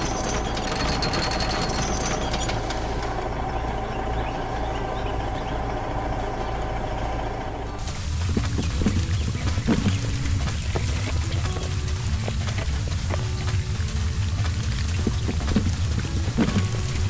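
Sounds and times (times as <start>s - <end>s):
rattling clatter: 0.0s - 4.2s, 5.0s - 17.0s
heavy vehicle engine running: 0.0s - 17.0s.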